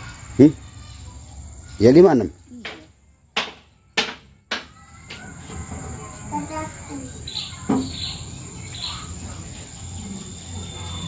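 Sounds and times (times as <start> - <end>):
high-pitched insect drone: 0.0 - 3.0, 4.8 - 11.0.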